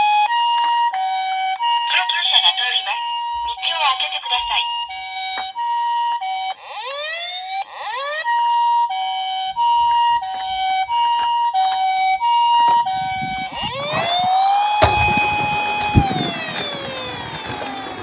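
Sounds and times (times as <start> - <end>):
two-tone ambulance siren: 0.0 - 18.0.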